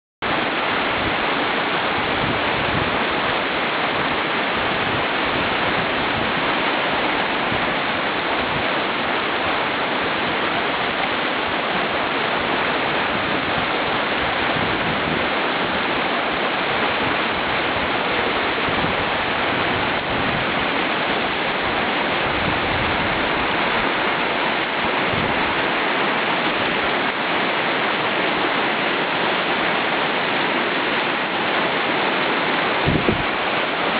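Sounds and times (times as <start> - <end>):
river rapids rushing: 0.2 - 33.9.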